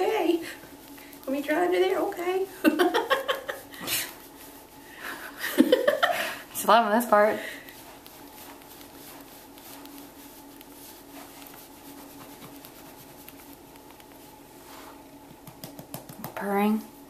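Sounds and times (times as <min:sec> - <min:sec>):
towel rubbing fur: 0:00.0 - 0:15.9
steady low hum: 0:00.0 - 0:17.0.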